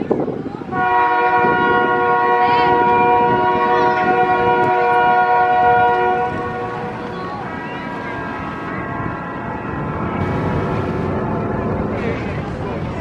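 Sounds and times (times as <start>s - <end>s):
locomotive air horn chord: 0.7s - 11.9s.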